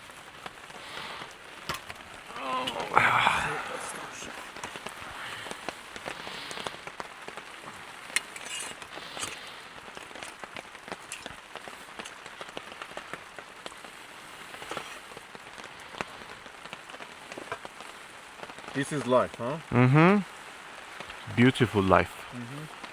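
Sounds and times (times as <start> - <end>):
raindrops ticking on surface: 0.0 - 22.9
steady rain: 0.0 - 22.9.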